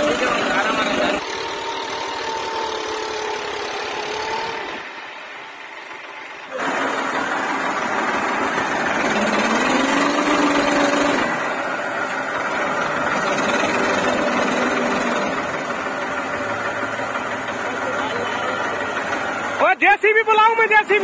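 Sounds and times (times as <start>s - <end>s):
tractor engine revving hard: 0.0s - 19.8s.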